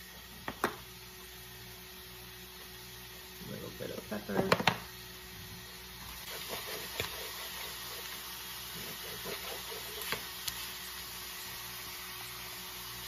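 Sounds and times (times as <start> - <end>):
meat and onion sizzling: 0.0 - 13.0.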